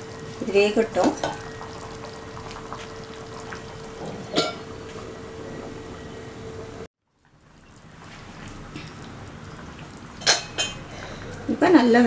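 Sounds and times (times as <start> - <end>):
gravy bubbling in a pan: 0.0 - 6.2, 7.0 - 12.0.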